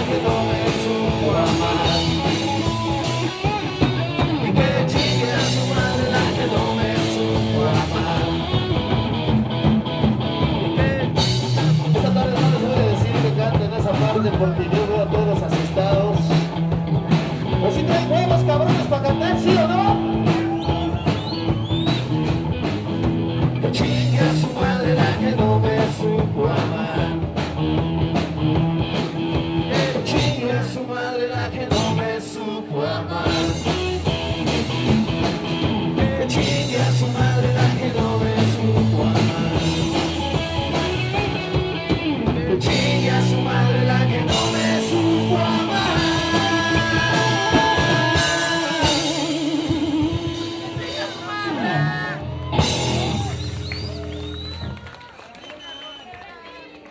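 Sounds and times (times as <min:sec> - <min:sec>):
drum beat: 0:00.0 - 0:30.5, 0:33.3 - 0:51.4, 0:52.6 - 0:53.6
rock band playing live: 0:00.0 - 0:54.8.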